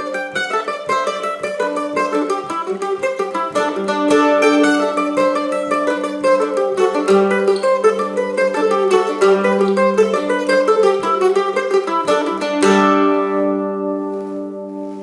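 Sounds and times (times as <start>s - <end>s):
plucked string instrument jig: 0.0s - 15.0s.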